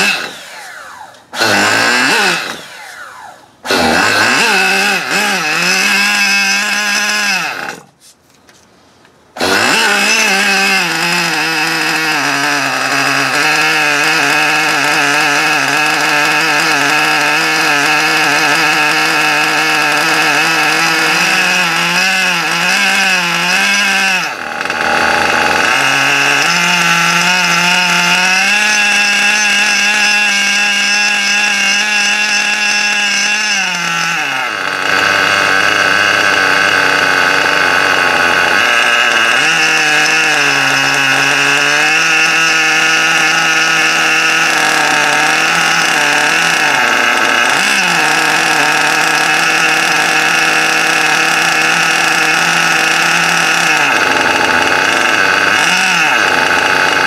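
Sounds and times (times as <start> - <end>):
nitro engine running fast: 0.0 - 7.4, 9.4 - 57.0.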